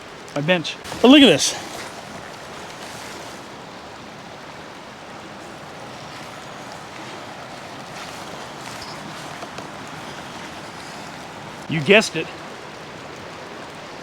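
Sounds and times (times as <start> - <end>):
flowing river water: 0.0 - 14.0
rain: 0.0 - 14.0.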